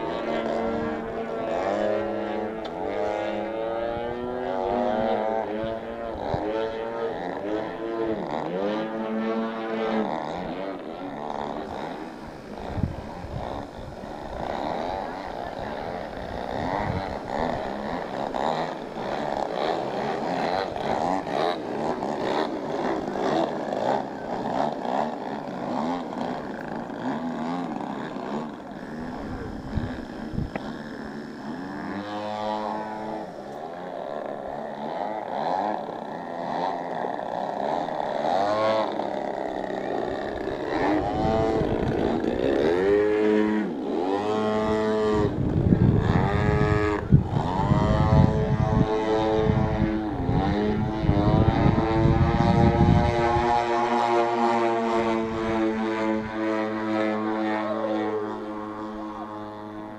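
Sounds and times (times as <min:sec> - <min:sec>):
model airplane engines buzzing: 0:00.0 - 0:59.9.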